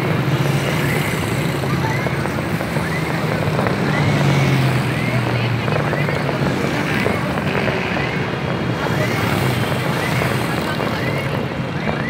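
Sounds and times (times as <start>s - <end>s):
motorcycle: 0.0s - 12.0s
road traffic noise: 0.0s - 12.0s.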